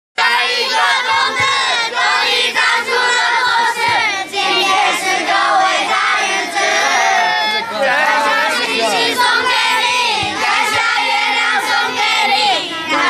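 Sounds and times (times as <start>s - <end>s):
adult voices singing: 0.2s - 13.0s
children singing in unison: 0.2s - 13.0s.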